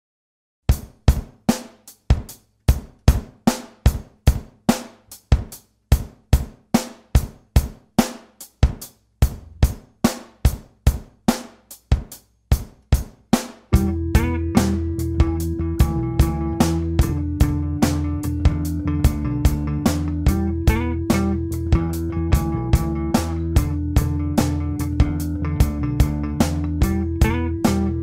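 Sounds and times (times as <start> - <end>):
drum kit playing steady beat: 0.7 - 28.0.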